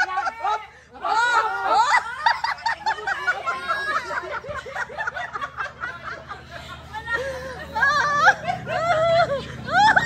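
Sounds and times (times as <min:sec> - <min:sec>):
people laughing and calling out: 0:00.0 - 0:10.0.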